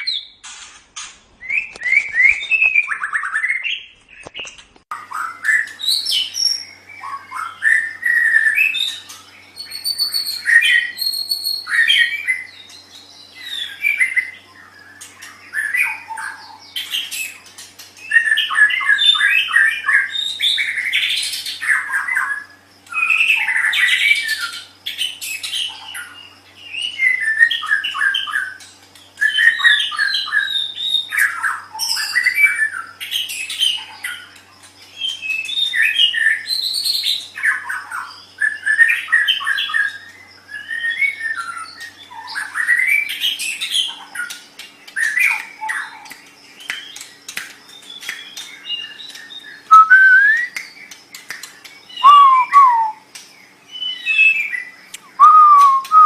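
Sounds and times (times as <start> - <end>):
songbird singing whistled phrases: 1.4 - 17.4, 18.0 - 28.6, 29.2 - 34.0, 35.0 - 44.4, 45.0 - 56.0.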